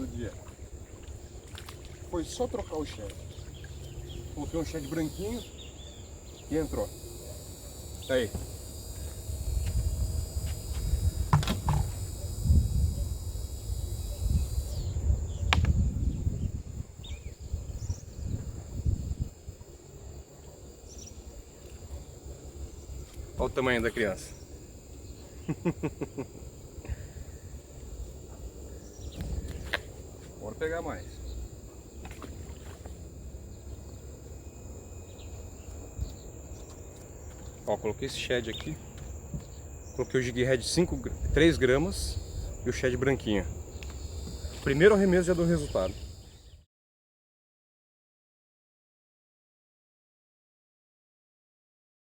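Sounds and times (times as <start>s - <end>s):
insects chirring: 0.0s - 46.6s.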